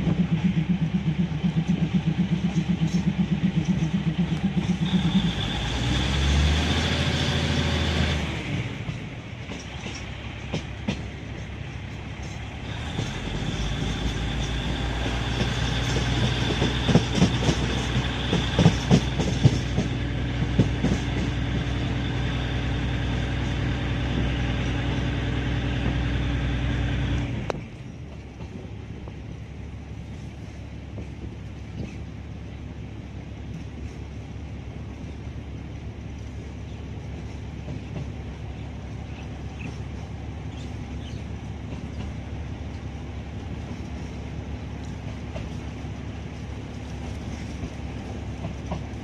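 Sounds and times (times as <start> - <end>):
wheels clicking over rail joints: 0.0 - 26.1, 30.1 - 32.2, 36.0 - 49.0
train engine hum: 0.0 - 49.0.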